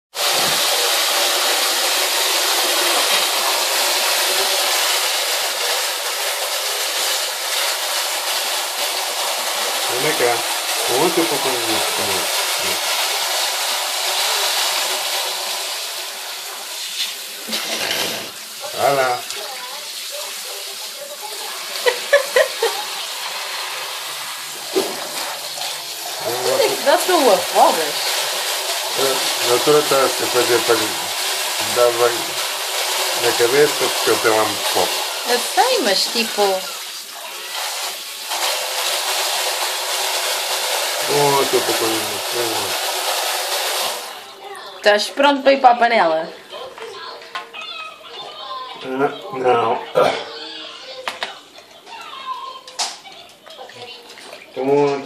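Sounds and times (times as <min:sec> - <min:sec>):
tap water splashing into sink: 0:00.1 - 0:44.7, 0:46.4 - 0:49.3, 0:50.8 - 0:55.0.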